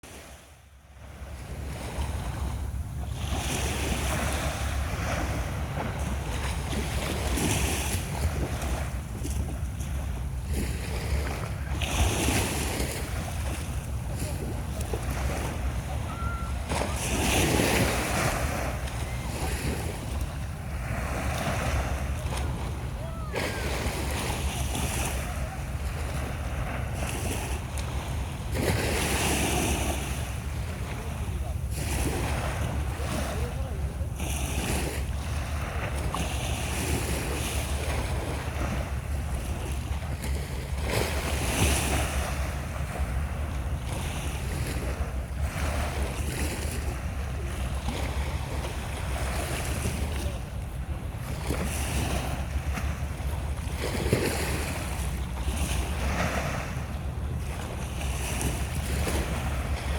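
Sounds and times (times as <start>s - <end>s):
low wind rumble on microphone: 0.0s - 59.9s
sea surf breaking on beach: 1.1s - 59.9s.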